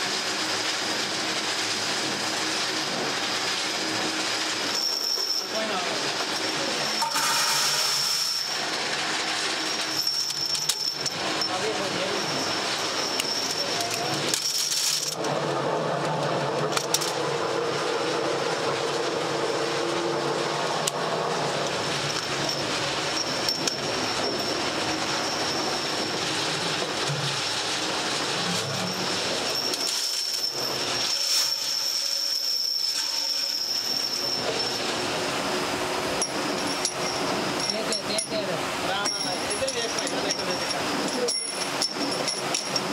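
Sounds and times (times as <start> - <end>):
thin high whine: 0.0 - 42.9
workshop machinery running: 0.0 - 42.9.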